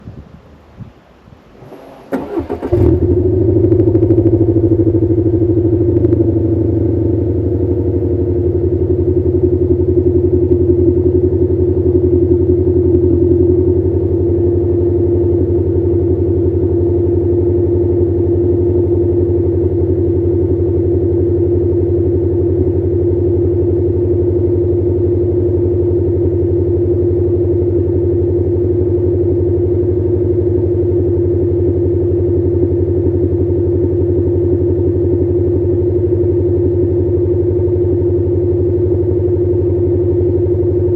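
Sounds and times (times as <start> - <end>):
car engine idling: 1.5 - 40.9.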